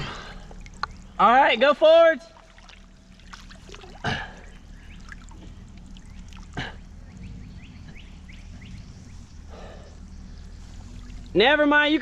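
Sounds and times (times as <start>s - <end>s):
water trickling and splashing: 0.0s - 9.6s, 10.2s - 12.0s
low steady hum: 0.0s - 12.0s.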